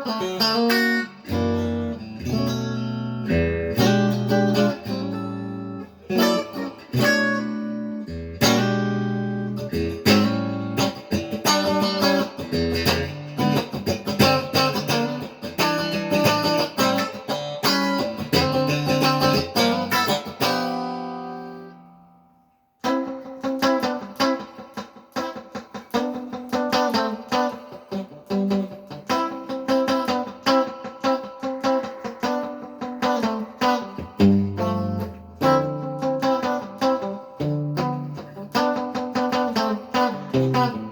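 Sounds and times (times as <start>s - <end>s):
clean electric guitar: 0.0s - 40.9s.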